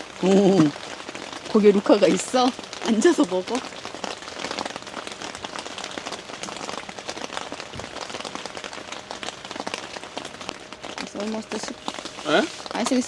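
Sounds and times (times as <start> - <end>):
raindrops ticking on a surface: 0.0 - 13.0
steady rain falling: 0.0 - 13.0.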